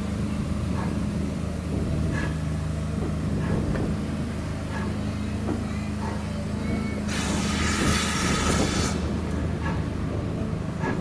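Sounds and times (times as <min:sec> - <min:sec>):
train moving hum: 0:00.0 - 0:11.0
wheels clicking over rail joints: 0:00.7 - 0:11.0.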